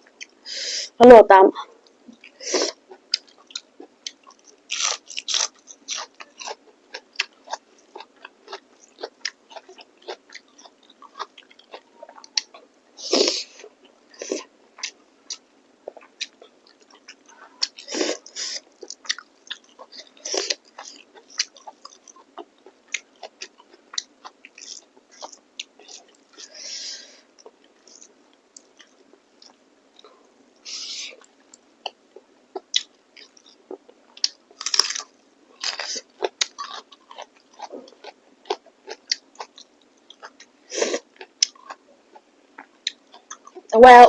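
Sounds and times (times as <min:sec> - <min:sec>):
person chewing and biting: 0:02.2 - 0:26.6, 0:31.9 - 0:43.7.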